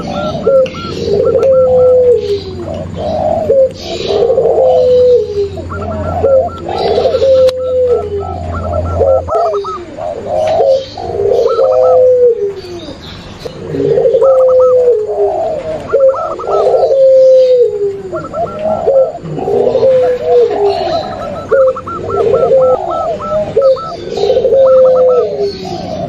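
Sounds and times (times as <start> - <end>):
higher trilled dove notes: 0.0 - 13.0, 13.6 - 26.0
doves cooing: 0.0 - 26.0.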